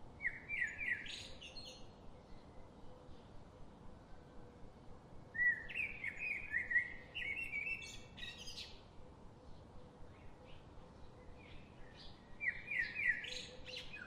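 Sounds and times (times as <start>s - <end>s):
background hiss: 0.0s - 14.0s
songbird chirping: 0.0s - 14.0s.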